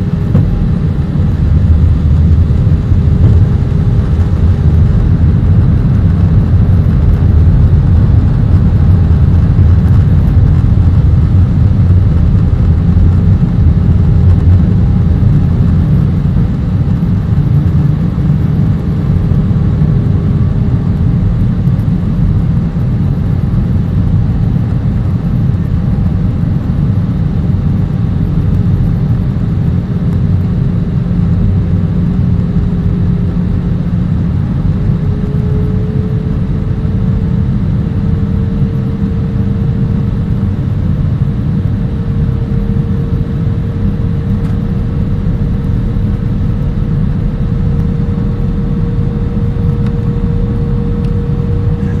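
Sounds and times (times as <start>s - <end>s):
jet engine rumble: 0.0s - 52.0s
steady whine: 0.0s - 52.0s.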